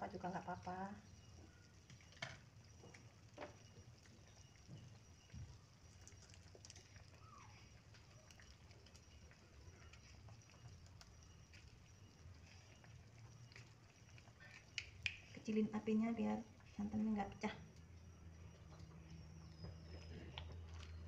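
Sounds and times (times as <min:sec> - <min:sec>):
faint chirp: 0:00.0 - 0:21.0
faint low hum: 0:00.0 - 0:21.0.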